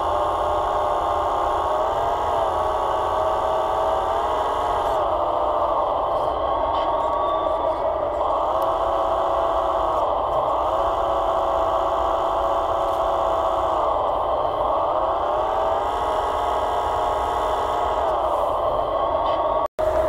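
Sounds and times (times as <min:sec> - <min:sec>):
electric hydraulic pump whining: 0:00.0 - 0:20.0.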